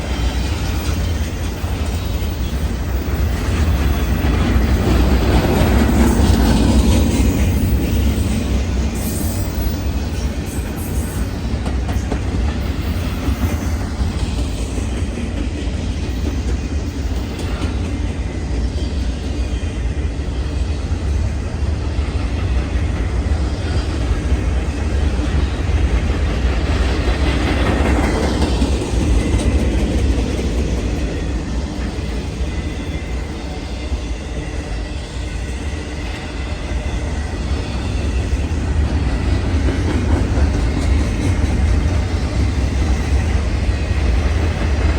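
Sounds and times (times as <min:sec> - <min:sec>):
train wheels clattering on rails: 0:00.0 - 0:44.9.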